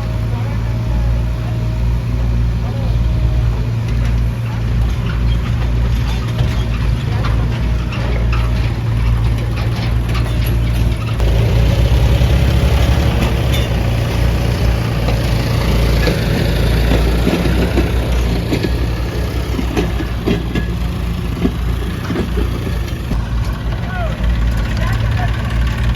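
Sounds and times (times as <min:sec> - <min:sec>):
backhoe diesel engine running: 0:00.0 - 0:25.9.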